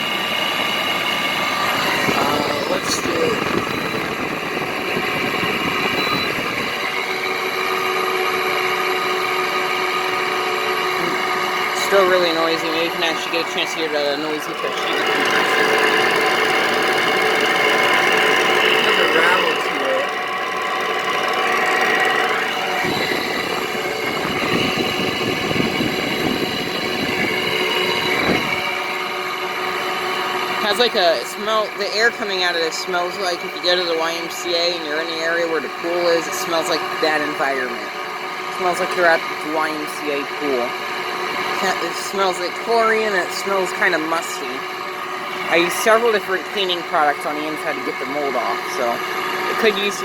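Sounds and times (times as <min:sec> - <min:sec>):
steady hum: 0:00.0 - 0:50.0
window air conditioner rumbling: 0:00.0 - 0:50.0.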